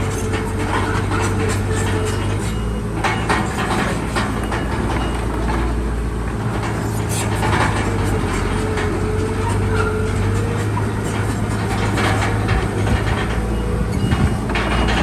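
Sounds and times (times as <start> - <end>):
clanks from steel tracks: 0.0 - 15.0
diesel engine running under load: 0.0 - 15.0.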